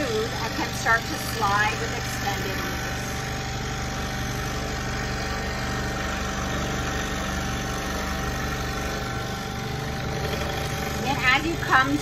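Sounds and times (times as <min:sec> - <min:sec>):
scroll saw cutting wood: 0:00.0 - 0:12.0.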